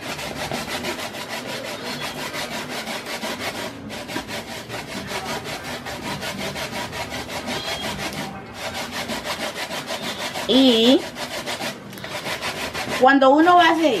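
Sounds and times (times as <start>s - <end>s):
knife sawing through fish: 0.0s - 14.0s.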